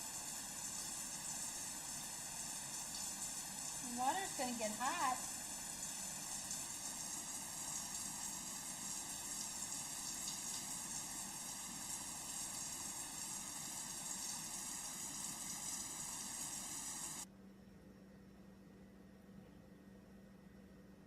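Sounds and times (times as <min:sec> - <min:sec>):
running water spraying hiss: 0:00.0 - 0:17.2.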